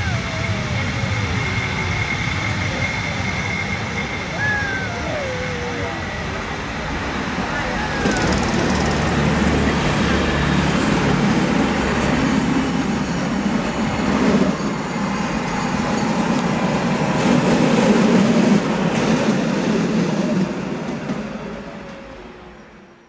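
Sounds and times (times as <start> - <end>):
train running on track: 0.0 - 23.0.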